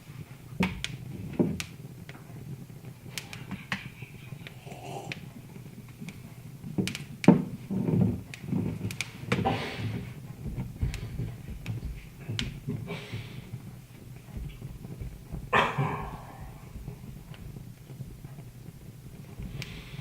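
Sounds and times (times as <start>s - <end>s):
low fire rumble: 0.0s - 20.0s
wood fire popping and snapping: 0.0s - 20.0s.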